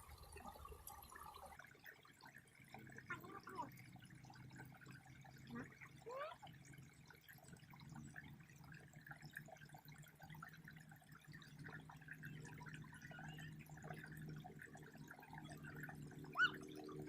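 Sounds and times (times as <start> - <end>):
water dripping and splashing: 0.0 - 17.0
low steady hum: 2.3 - 17.0.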